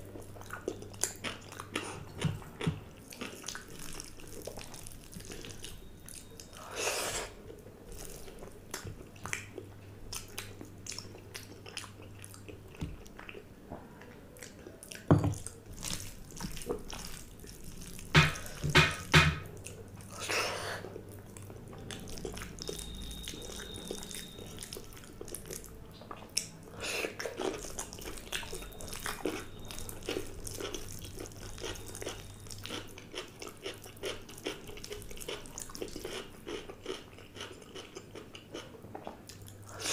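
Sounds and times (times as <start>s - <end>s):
chewing: 0.0s - 18.6s, 19.6s - 39.9s.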